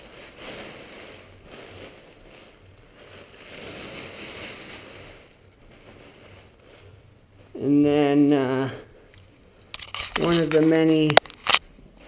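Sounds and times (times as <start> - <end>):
nylon fabric rustling: 0.0 - 12.0.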